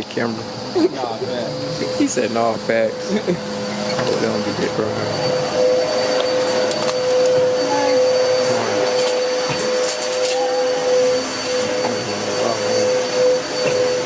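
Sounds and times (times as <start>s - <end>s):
mechanical drone: 0.0s - 14.0s.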